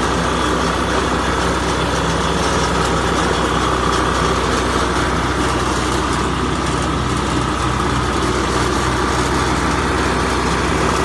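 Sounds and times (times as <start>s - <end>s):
constant whine: 0.0s - 11.0s
machinery engine idling: 0.0s - 11.0s.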